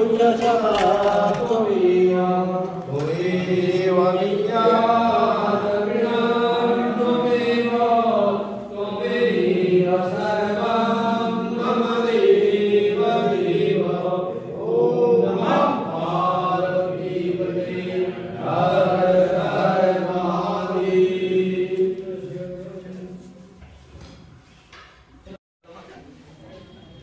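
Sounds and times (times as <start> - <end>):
voices chanting a mantra: 0.0 - 23.6.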